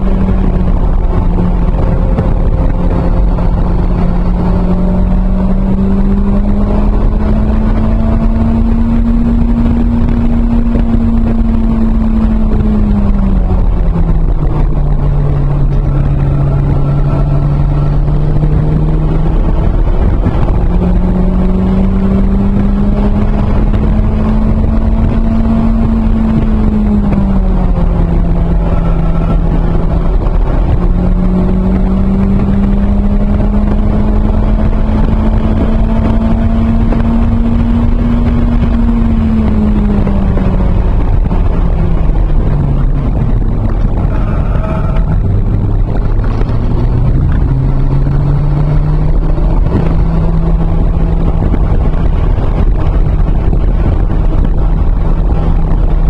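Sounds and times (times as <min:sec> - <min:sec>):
car engine: 0:00.0 - 0:56.0
wind and road noise: 0:00.0 - 0:56.0.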